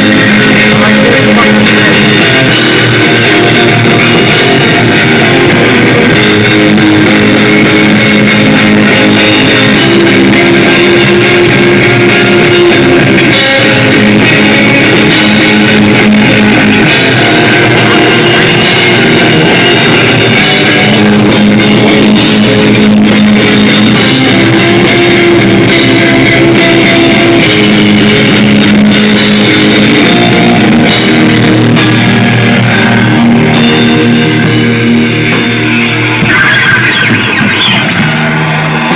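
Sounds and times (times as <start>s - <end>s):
distorted electric guitars: 0.0s - 38.9s
drum kit: 0.0s - 38.9s
live heavy rock band: 0.0s - 38.9s.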